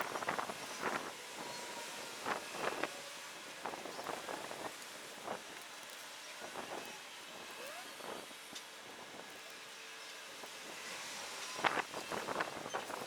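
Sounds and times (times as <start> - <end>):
wind hiss on microphone: 0.0 - 13.0.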